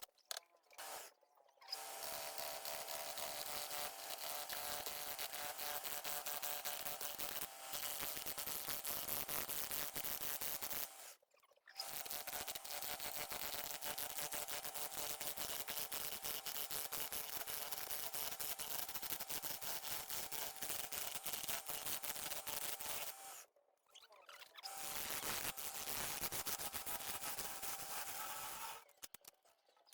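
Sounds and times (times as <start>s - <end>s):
small motor hum: 0.8s - 11.2s, 11.8s - 23.4s, 24.6s - 28.9s.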